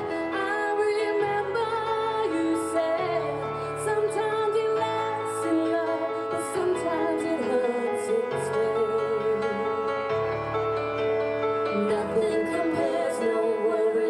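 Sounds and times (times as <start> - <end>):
person singing: 0.0 - 10.2, 11.7 - 14.0
instrumental backing track: 0.0 - 14.0.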